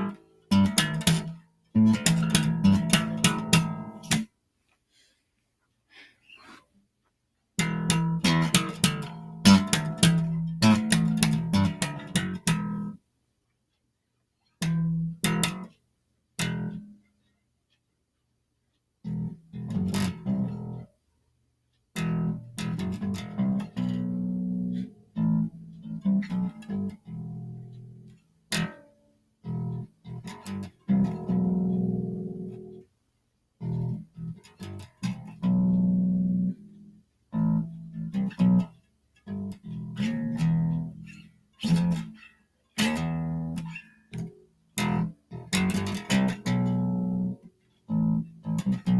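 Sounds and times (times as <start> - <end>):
plucked guitar notes: 0.0 - 4.3, 7.6 - 13.0, 14.6 - 15.8, 16.4 - 17.0, 19.1 - 20.9, 22.0 - 32.9, 33.6 - 48.9.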